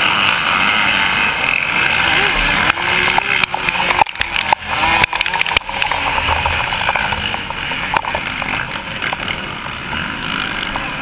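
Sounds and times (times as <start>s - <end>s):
motocross bike engine racing: 0.0s - 11.0s.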